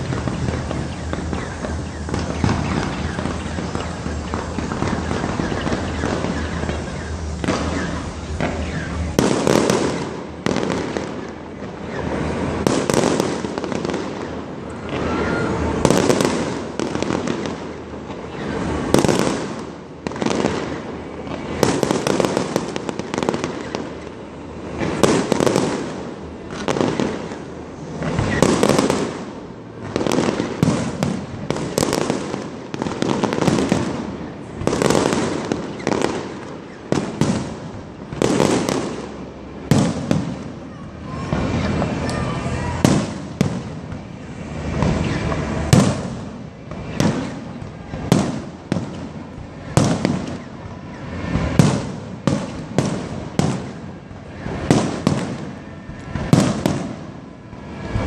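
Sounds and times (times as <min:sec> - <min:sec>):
firework shells bursting: 0:00.0 - 0:40.6, 0:42.8 - 0:58.0.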